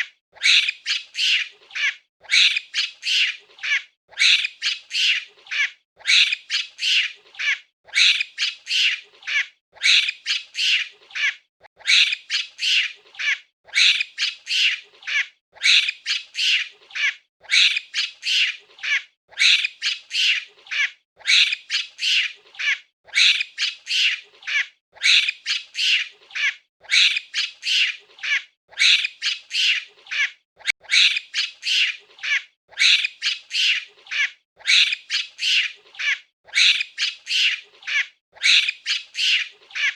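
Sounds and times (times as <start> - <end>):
monkey calling: 0.0 - 39.9.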